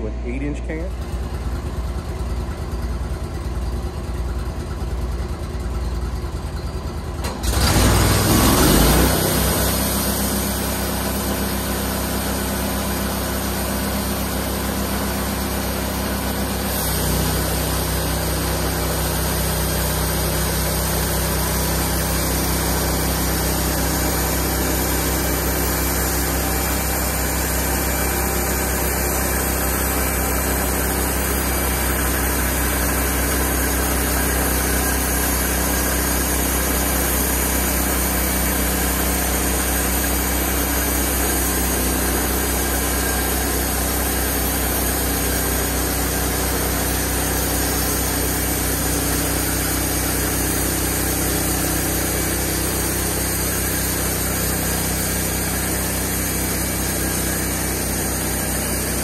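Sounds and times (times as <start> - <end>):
bandsaw mill running: 0.0 - 59.0.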